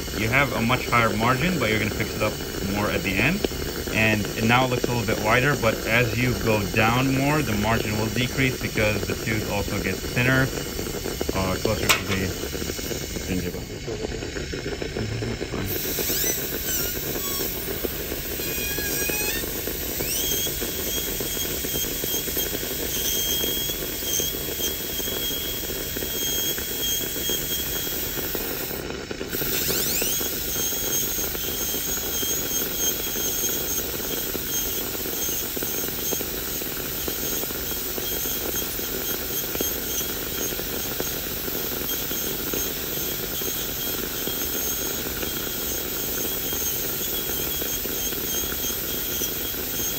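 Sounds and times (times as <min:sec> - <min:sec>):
dental drill whining: 0:00.0 - 0:49.9.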